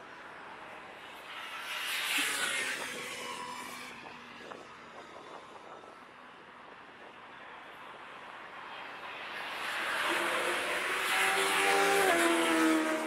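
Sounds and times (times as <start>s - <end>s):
vehicles passing on a bridge: 0.0s - 13.0s.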